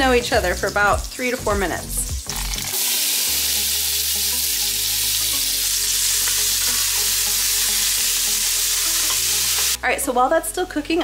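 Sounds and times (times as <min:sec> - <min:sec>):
sausage and onion sizzling in oil: 0:00.0 - 0:09.8.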